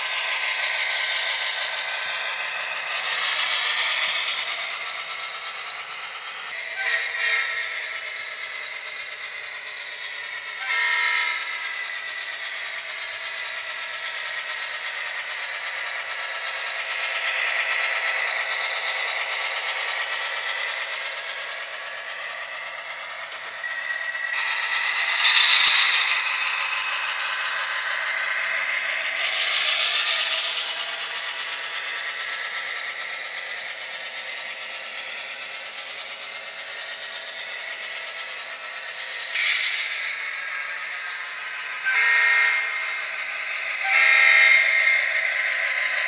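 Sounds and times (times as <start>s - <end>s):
model train motor whir: 0.0s - 46.0s.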